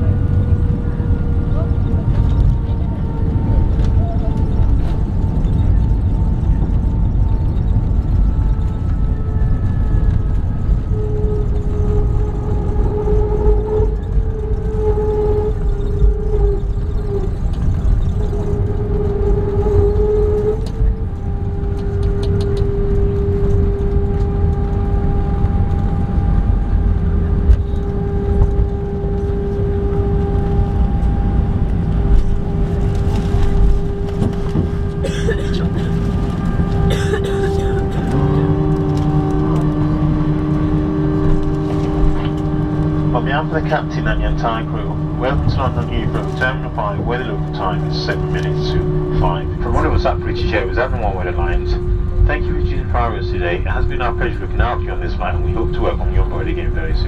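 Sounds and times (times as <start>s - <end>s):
engine and wheel rumble: 0.0s - 57.0s
jet engine whine: 0.0s - 57.0s.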